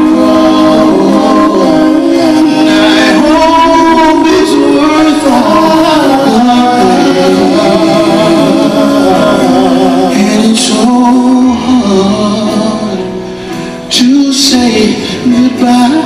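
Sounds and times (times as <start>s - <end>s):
male vocal trio singing harmony: 0.0s - 16.0s.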